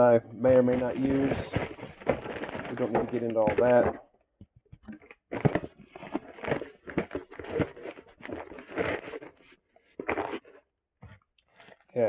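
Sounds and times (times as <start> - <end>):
packaging crinkling and rustling: 0.5 - 4.0, 4.7 - 12.0.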